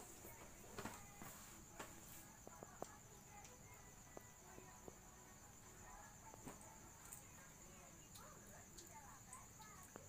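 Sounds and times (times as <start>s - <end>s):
faint high-pitched whine: 0.0s - 10.0s.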